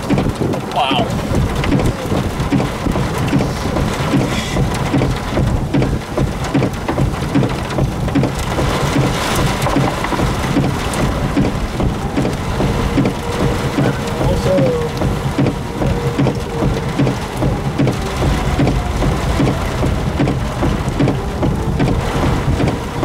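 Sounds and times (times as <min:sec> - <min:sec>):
heavy rain: 0:00.0 - 0:23.0
low rumble: 0:00.0 - 0:23.0.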